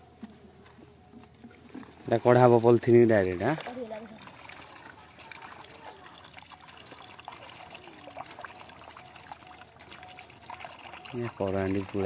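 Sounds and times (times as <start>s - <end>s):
water patters in bag: 1.2s - 12.0s
water trickling into plastic bag: 1.5s - 12.0s.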